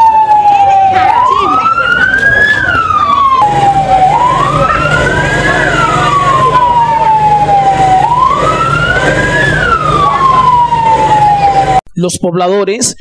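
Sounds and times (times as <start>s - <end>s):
siren wailing: 0.0s - 11.8s.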